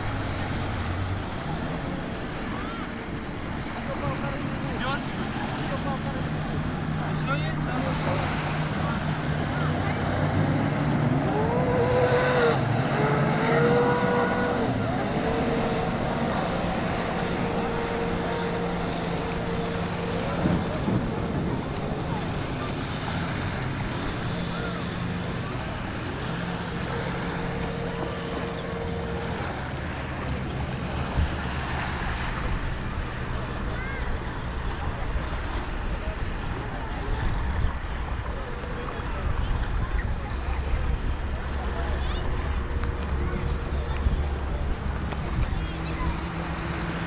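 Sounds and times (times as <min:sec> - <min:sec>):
motorboat engine running: 0:00.0 - 0:47.0
water washing against hull: 0:00.0 - 0:47.0
wind buffeting microphone: 0:00.0 - 0:47.0.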